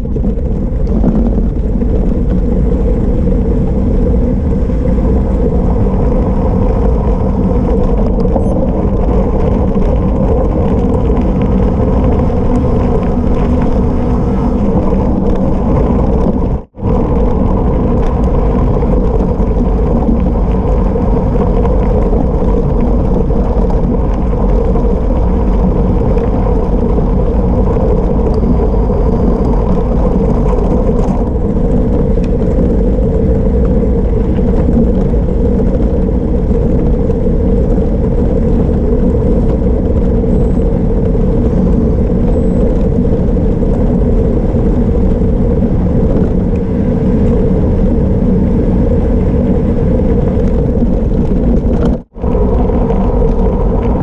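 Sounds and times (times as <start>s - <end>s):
wind rumble on camera: 0.0s - 54.0s
tyres rolling over gravel: 0.1s - 47.4s.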